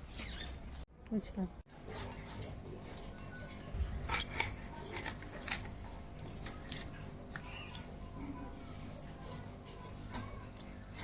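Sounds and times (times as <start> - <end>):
light clinks and taps: 1.8 - 11.0.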